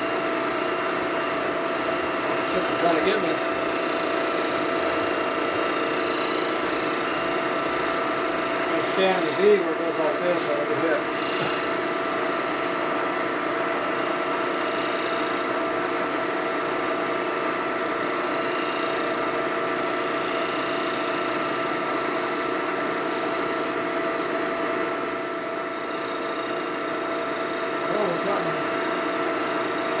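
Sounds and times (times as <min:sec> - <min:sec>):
milling machine humming: 0:00.0 - 0:30.0.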